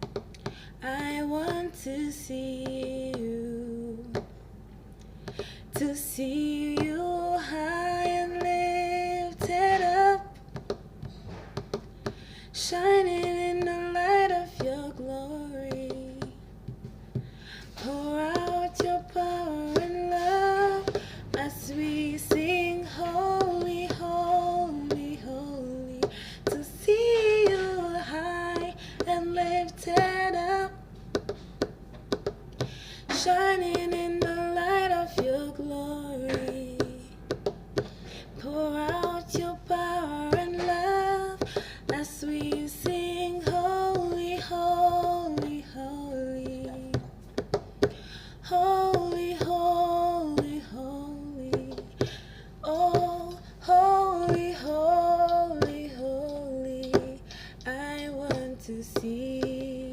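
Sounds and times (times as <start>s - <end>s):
woman singing worship melody: 0.4s - 4.4s, 5.3s - 10.8s, 12.0s - 16.5s, 17.5s - 31.7s, 32.6s - 59.9s.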